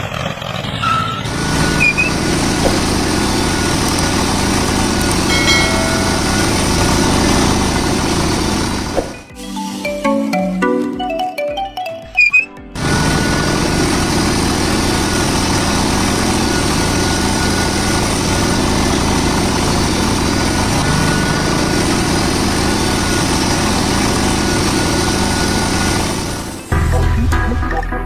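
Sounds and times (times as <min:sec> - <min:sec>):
small engine running: 0:00.0 - 0:09.4, 0:12.8 - 0:26.8.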